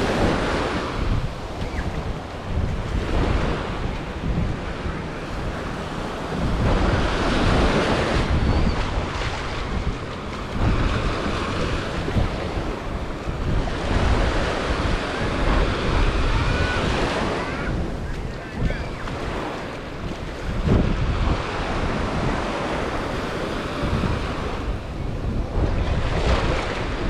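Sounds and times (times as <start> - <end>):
surf washing onto beach: 0.0 - 27.0
wind buffeting microphone: 0.0 - 27.0.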